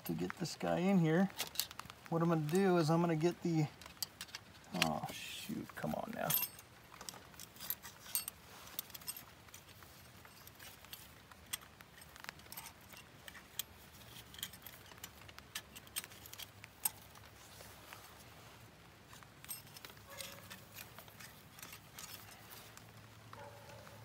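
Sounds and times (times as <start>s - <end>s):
small metallic clicks and clinks: 0.0s - 18.0s, 19.1s - 24.0s.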